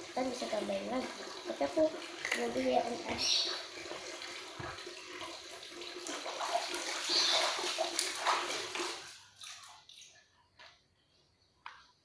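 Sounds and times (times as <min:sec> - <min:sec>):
water running and splashing: 0:00.0 - 0:10.2.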